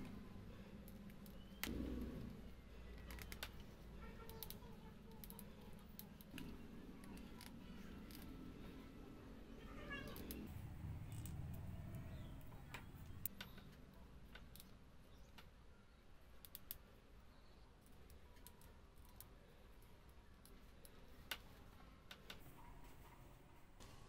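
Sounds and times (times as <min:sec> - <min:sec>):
small wooden clicks: 0:00.0 - 0:08.9, 0:10.0 - 0:22.5.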